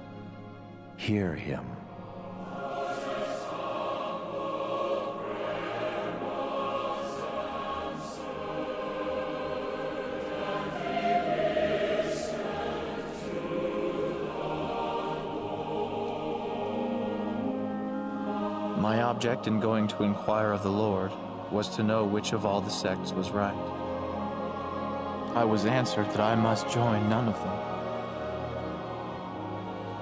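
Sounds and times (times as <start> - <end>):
choir singing sustained chords: 0.0 - 30.0.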